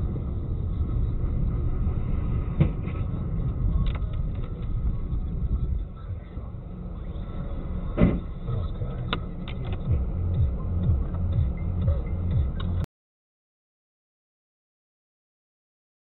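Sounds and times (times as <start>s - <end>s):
road vehicle rumble: 0.0s - 12.9s.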